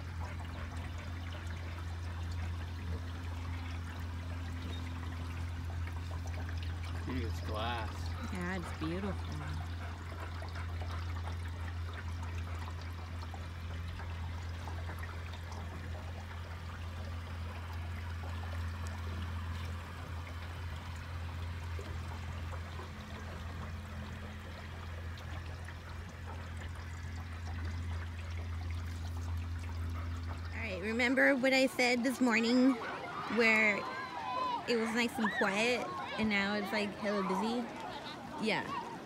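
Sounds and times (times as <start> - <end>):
steady low hum: 0.0 - 39.0
water lapping against boat hull: 0.0 - 39.0.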